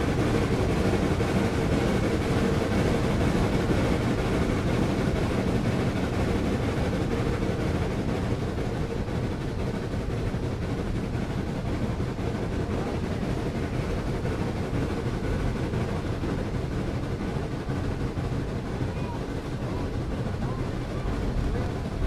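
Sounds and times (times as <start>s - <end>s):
steam train running on track: 0.0s - 22.0s.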